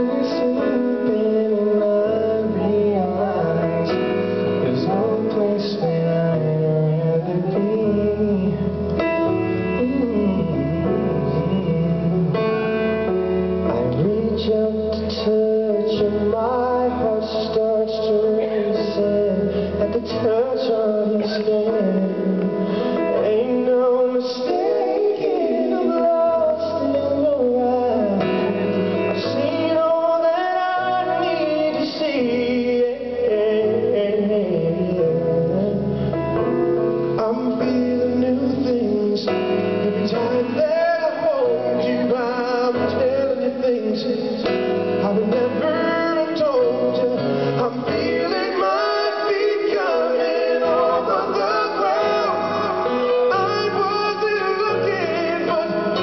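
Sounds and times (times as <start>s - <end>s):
grand piano: 0.0s - 56.0s
man singing into a microphone: 0.0s - 56.0s.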